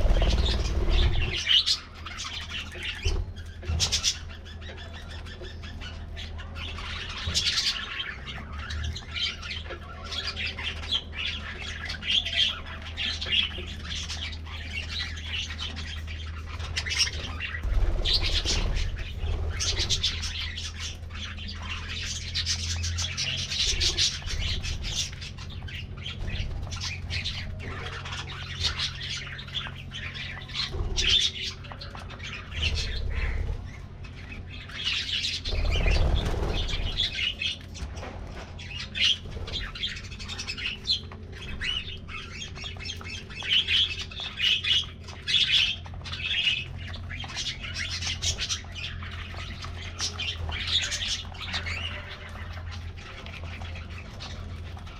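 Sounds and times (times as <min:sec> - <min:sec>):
budgerigars chirping and chattering: 0:00.0 - 0:54.9
steady low hum: 0:00.0 - 0:54.9.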